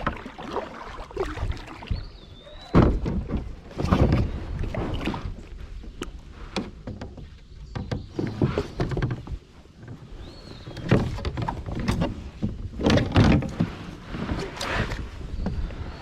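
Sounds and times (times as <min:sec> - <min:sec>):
kayak paddle splashing: 0:00.0 - 0:16.0
water sloshing: 0:00.0 - 0:16.0.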